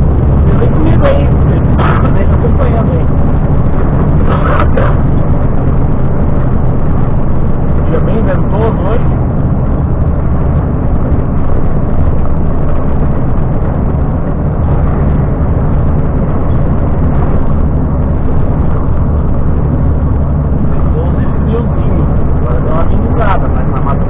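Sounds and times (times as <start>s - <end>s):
road noise: 0.0s - 24.0s
truck engine drone: 0.0s - 24.0s.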